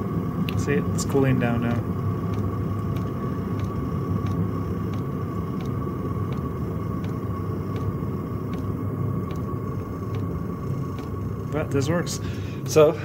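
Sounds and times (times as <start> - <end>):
diesel heater running: 0.0 - 13.0
faint ticking: 0.4 - 13.0.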